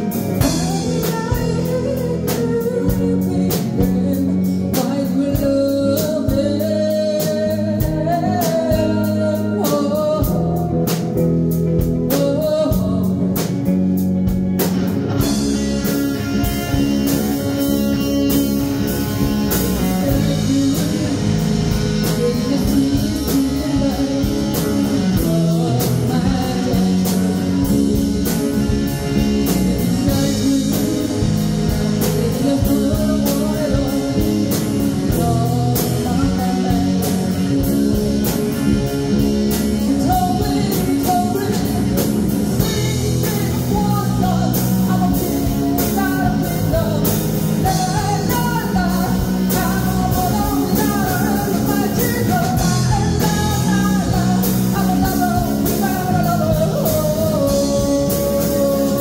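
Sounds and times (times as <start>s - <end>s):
rock band playing: 0.0s - 59.0s
woman singing lead: 0.0s - 59.0s.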